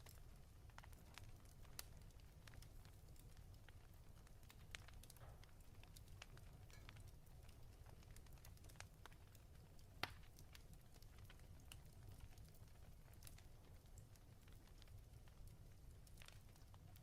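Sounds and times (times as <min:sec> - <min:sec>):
fireplace crackling: 0:00.0 - 0:17.0.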